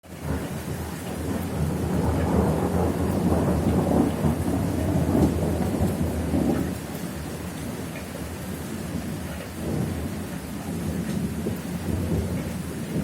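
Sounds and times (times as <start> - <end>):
steady rain hissing: 0.0 - 13.0
thunder rumbling: 0.1 - 13.0.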